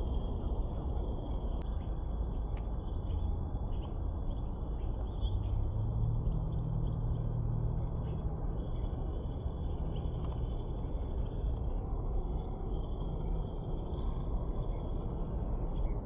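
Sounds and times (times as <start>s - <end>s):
low hum: 0.0s - 16.0s
steady low rumbling: 0.0s - 16.0s.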